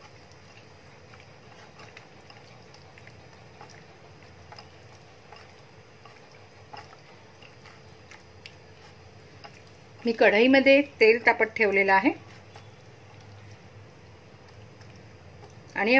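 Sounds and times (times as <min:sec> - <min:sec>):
low steady hum: 0:00.0 - 0:15.9
wet squelching of hand mixing: 0:00.0 - 0:15.9.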